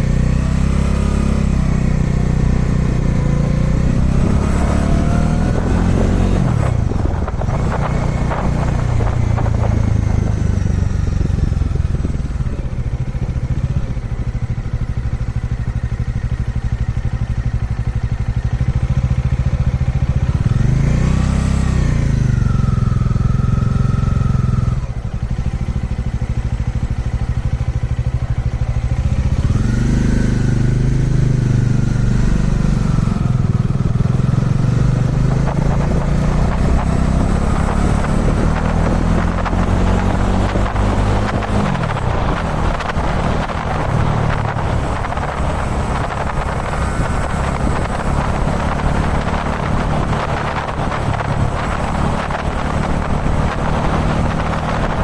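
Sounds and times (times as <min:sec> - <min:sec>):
motorcycle engine revving: 0:00.0 - 0:55.0
wind rushing over microphone: 0:00.4 - 0:55.0.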